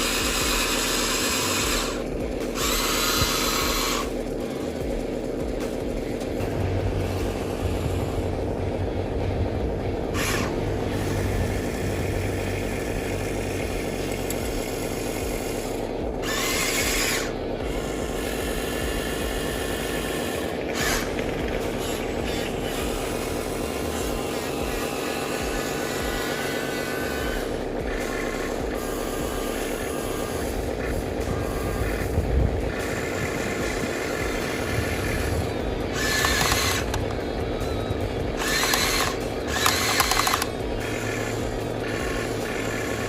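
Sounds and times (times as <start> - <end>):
toy motor and gearbox whirring: 0.0 - 43.0.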